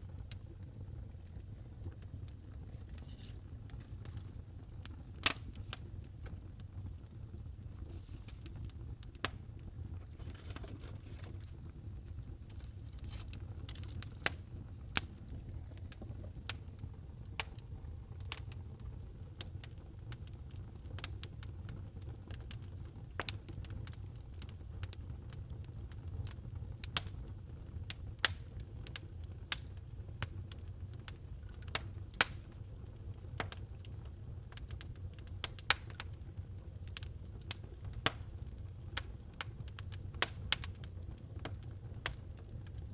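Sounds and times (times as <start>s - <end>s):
fire crackling and popping: 0.0s - 42.9s
low rumble of fire: 0.0s - 42.9s.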